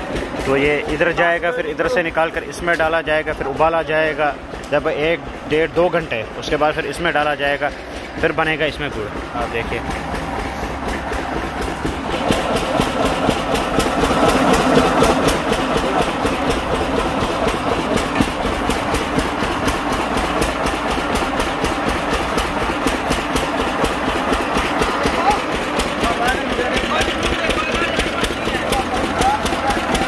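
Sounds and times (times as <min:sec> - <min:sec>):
sugarcane crusher knocking: 0:00.0 - 0:30.0.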